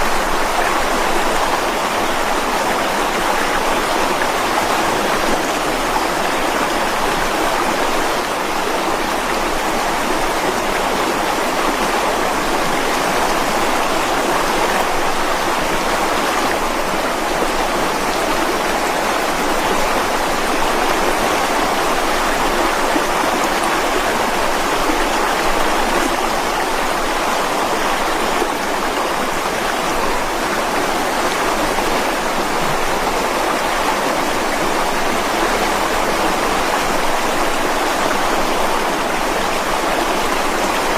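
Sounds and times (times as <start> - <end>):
stream splashing over rocks: 0.0 - 40.9.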